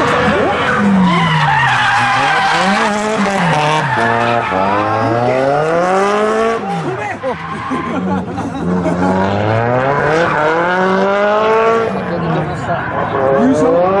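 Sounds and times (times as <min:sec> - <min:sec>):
car engine revving: 0:00.0 - 0:14.0
tyres skidding: 0:00.0 - 0:14.0.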